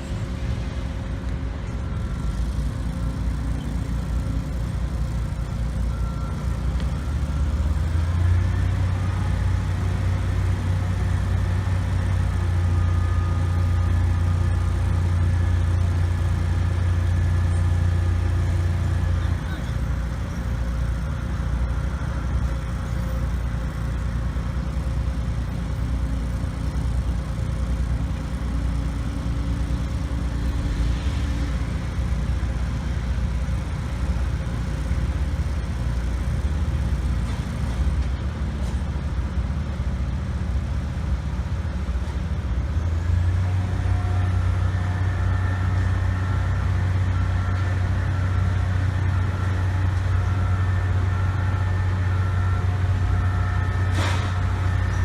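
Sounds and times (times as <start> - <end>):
heavy machinery engine rumbling: 0.0 - 55.0.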